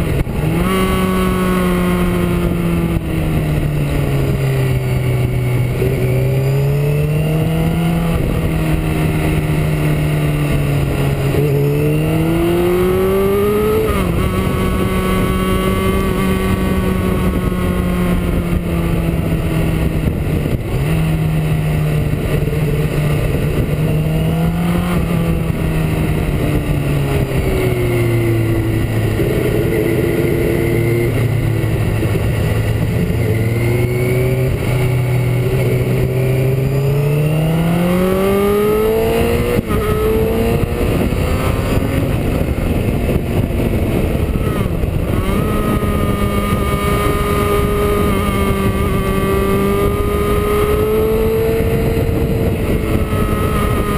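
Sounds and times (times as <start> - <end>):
motorcycle engine: 0.0 - 53.9
wind noise: 0.0 - 53.9.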